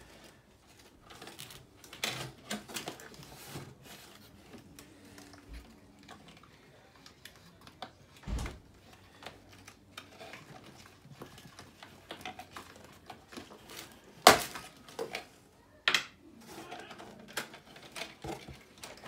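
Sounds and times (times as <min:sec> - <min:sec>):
small clicks and rustles: 0:00.1 - 0:15.4, 0:16.4 - 0:19.0.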